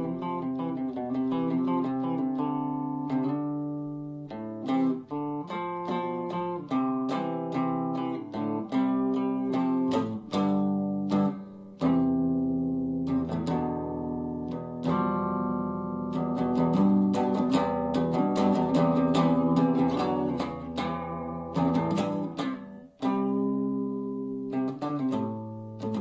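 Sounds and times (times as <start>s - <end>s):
clean electric guitar: 0.0s - 26.0s.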